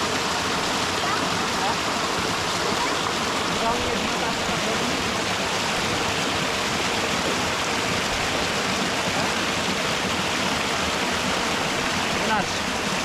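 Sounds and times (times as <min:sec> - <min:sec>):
rushing water roar: 0:00.0 - 0:13.0.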